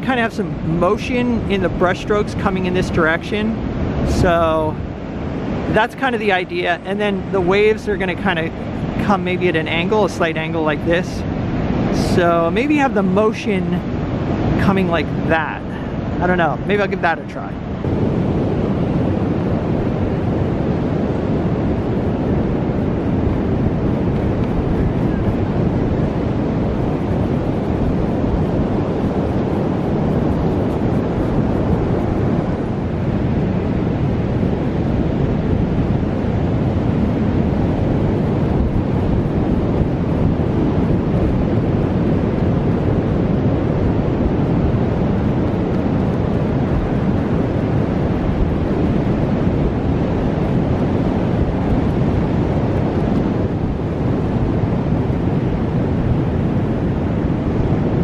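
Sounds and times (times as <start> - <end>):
surf breaking on beach: 0.0 - 58.0
wind rushing over microphone: 0.0 - 58.0.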